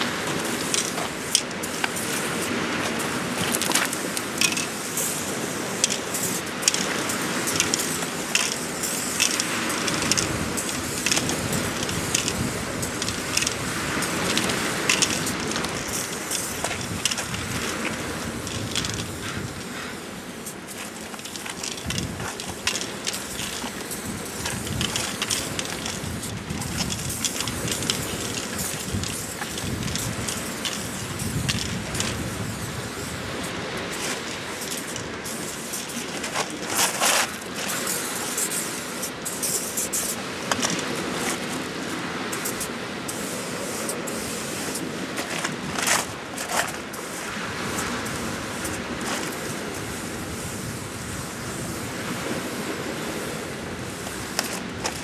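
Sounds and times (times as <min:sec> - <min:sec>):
spray paint can hissing: 0:00.0 - 0:55.0
steady background noise: 0:00.0 - 0:55.0.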